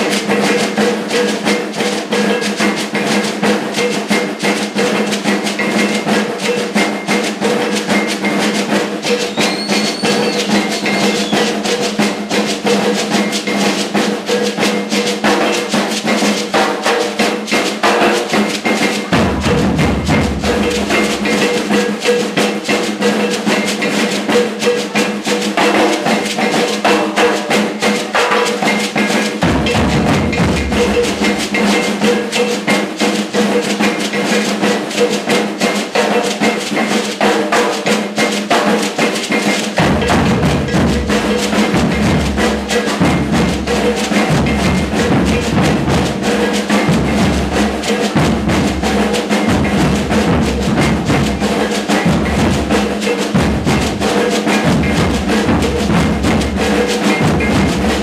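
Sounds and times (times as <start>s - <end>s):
snare drum rhythm with rolls: 0.0s - 58.0s.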